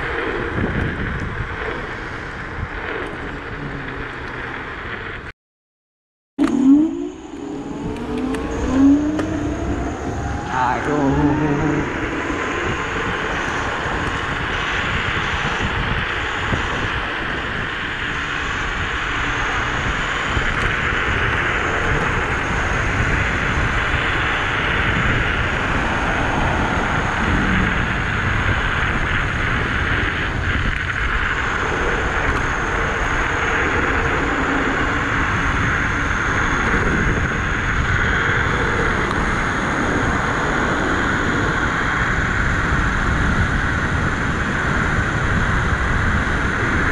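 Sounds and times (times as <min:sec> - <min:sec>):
road and tyre rumble: 0:00.0 - 0:05.3, 0:06.4 - 0:46.9
wind rush over microphone: 0:00.0 - 0:05.3, 0:06.4 - 0:46.9.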